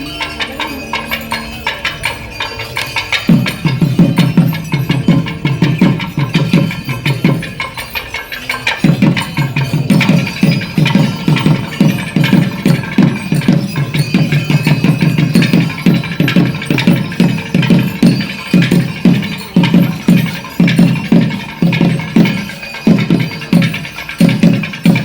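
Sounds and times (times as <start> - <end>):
percussion ensemble drumming: 0.0 - 25.0
ringing higher tones: 0.0 - 25.0.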